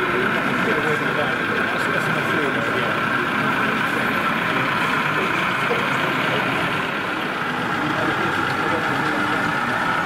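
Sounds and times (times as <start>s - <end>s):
murmur of crowd voices: 0.0s - 10.0s.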